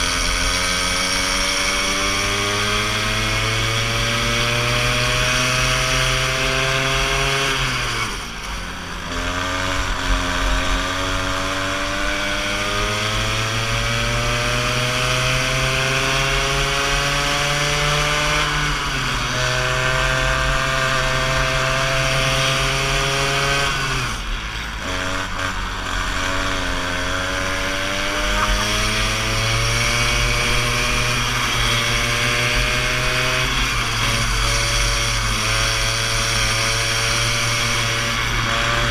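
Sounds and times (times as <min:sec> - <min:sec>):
go-kart engine revving: 0:00.0 - 0:38.9.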